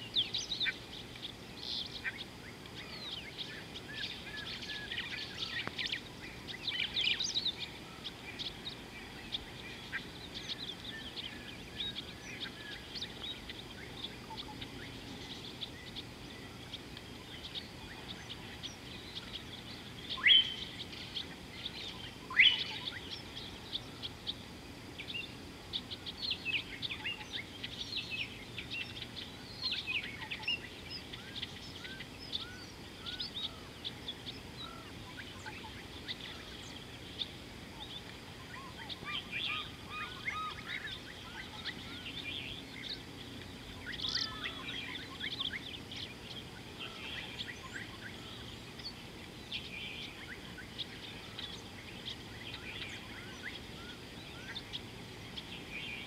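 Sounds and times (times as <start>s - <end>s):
rising whistled bird calls: 0.0s - 24.1s, 25.0s - 43.1s, 43.7s - 56.0s
birds chirping: 0.0s - 56.0s.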